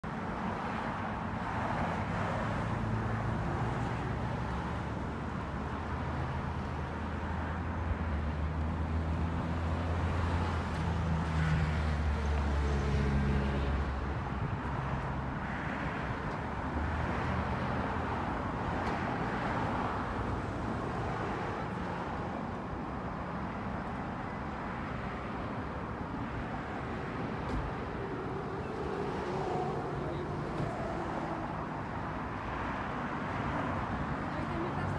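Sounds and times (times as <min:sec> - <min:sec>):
traffic noise: 0:00.0 - 0:34.9.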